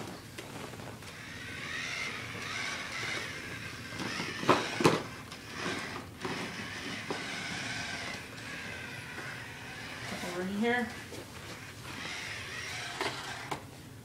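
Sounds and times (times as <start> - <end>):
toy tank motors whining: 1.1 - 13.6.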